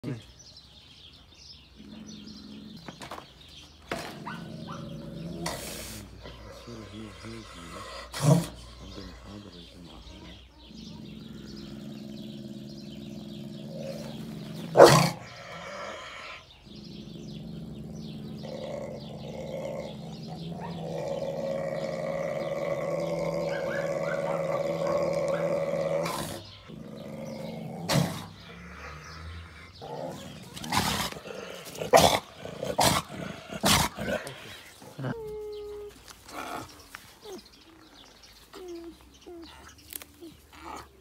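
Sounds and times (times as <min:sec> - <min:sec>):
wolf growling: 0:01.6 - 0:41.0.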